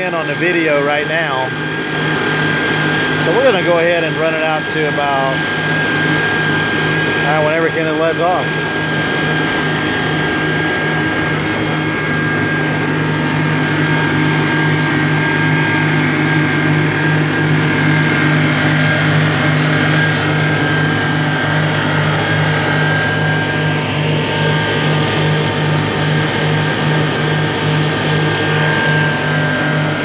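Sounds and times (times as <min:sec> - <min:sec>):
watercraft engine running: 0:00.0 - 0:30.0.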